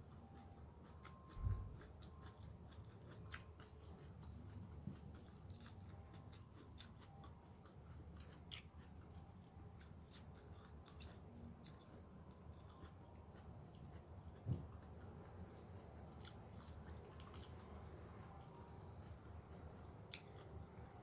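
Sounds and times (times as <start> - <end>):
chewing crunchy vegetables: 0.0 - 21.0.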